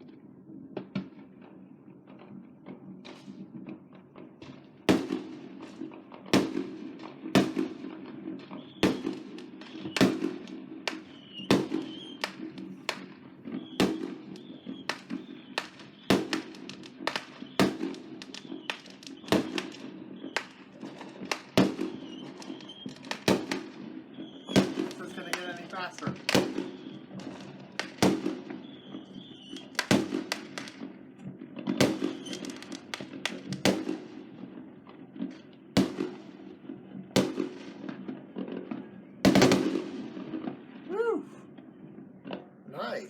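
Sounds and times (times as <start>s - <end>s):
distant fireworks rumble: 0.0s - 43.0s
firework crackle: 0.8s - 43.0s
firework bangs: 2.2s - 43.0s.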